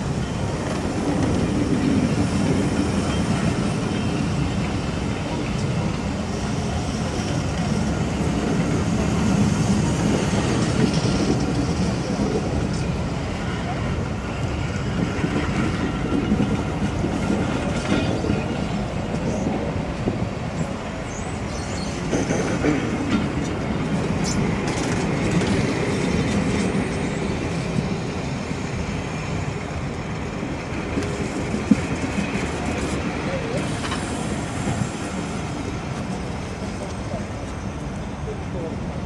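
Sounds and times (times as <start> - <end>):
train wheels rumbling and clicking: 0.0 - 39.0.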